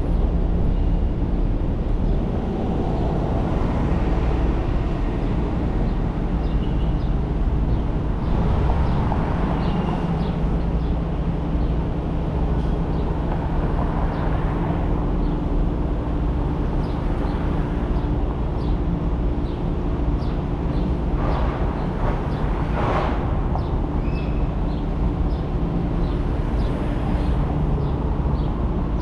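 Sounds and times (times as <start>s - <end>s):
road and tyre noise: 0.0s - 29.0s.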